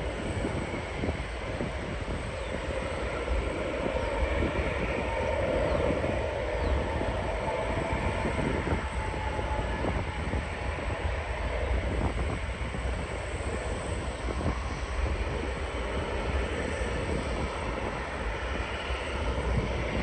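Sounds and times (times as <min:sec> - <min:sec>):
jet airliner passing: 0:00.0 - 0:20.0
wind buffeting microphone: 0:00.0 - 0:20.0.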